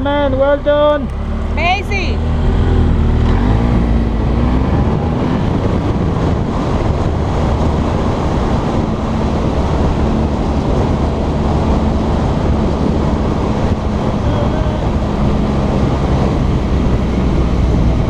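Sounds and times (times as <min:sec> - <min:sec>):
motorcycle engine running: 0:00.0 - 0:18.0
wind rushing over microphone: 0:00.9 - 0:18.0.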